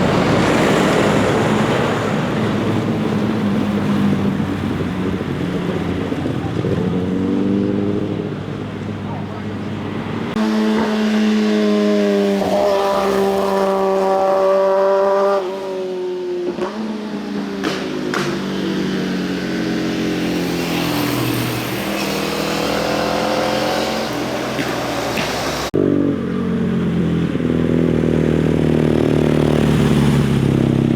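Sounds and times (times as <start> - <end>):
motorcycle engines passing: 0.0 - 30.9.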